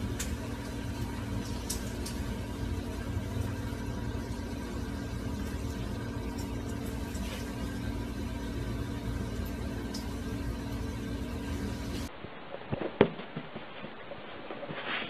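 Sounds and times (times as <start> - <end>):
steady machine hum: 0.0 - 14.1.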